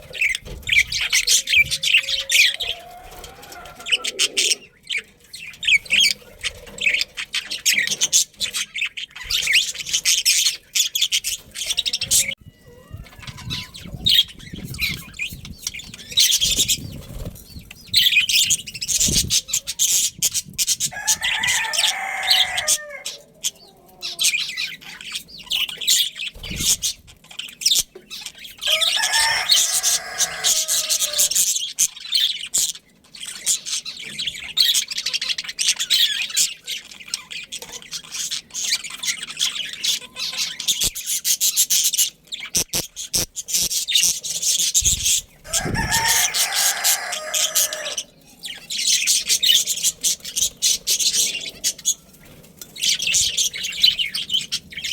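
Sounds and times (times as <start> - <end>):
budgies chirping and chattering: 0.0 - 54.9.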